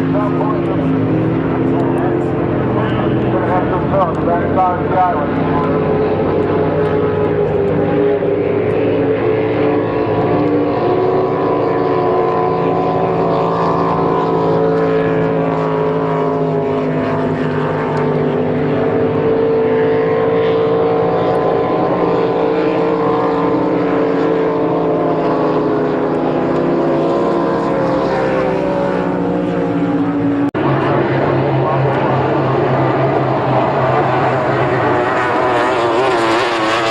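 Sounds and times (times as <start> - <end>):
racing boat engines: 0.0 - 36.9.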